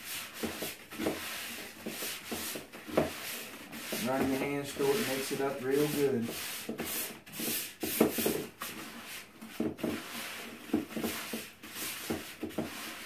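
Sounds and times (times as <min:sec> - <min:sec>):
gritty rubbing in plastic bucket: 0:00.0 - 0:13.0.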